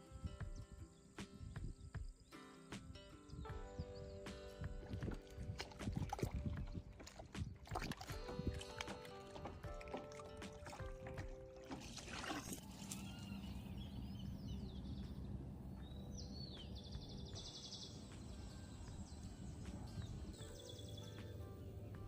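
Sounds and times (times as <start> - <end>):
wind rumble: 3.3 - 9.9, 10.8 - 22.0.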